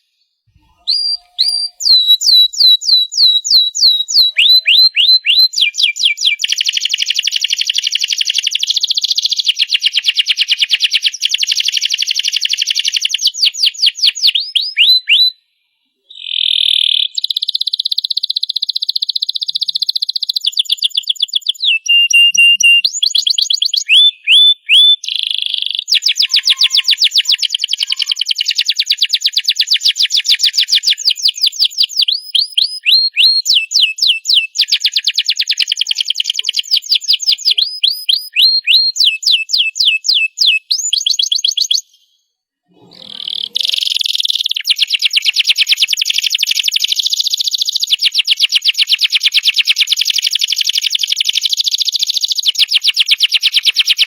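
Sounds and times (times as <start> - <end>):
canary singing trills: 0.0 - 9.6, 16.1 - 42.1, 42.7 - 54.0.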